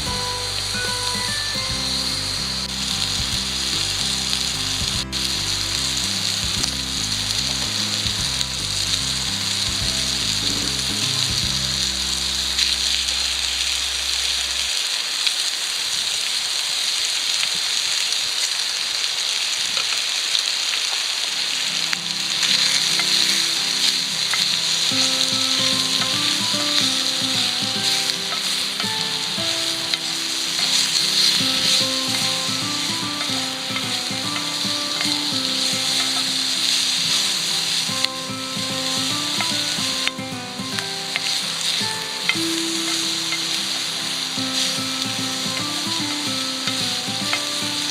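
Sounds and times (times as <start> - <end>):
soft background music: 0.0 - 14.4, 21.8 - 47.9
food sizzling in a pan: 0.0 - 47.9.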